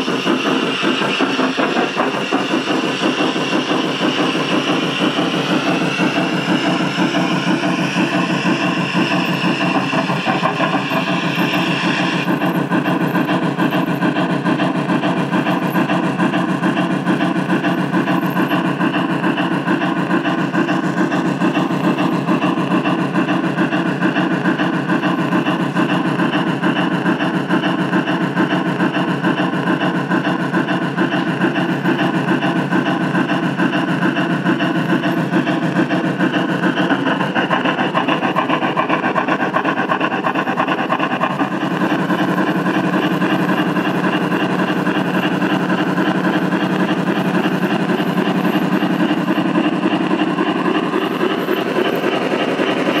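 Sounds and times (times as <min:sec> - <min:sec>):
model steam locomotive running: 0:00.0 - 0:53.0.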